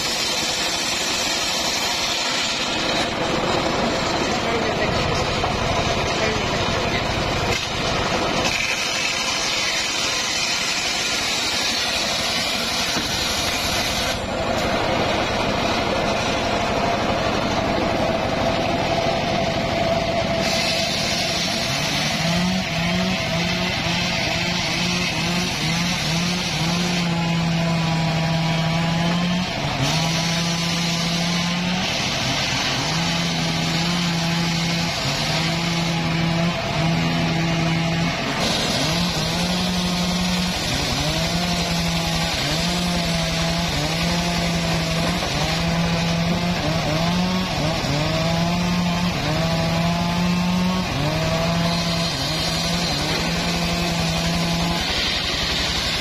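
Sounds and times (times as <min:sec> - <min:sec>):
table saw cutting wood: 0:00.0 - 0:56.0.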